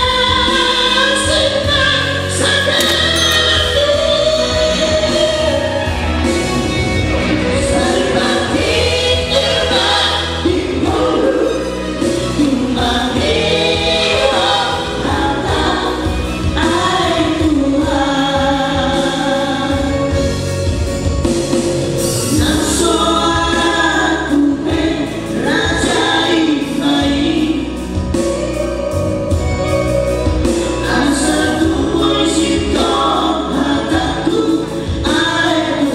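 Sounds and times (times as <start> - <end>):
male trio singing in harmony: 0.0 - 20.4, 22.2 - 35.9.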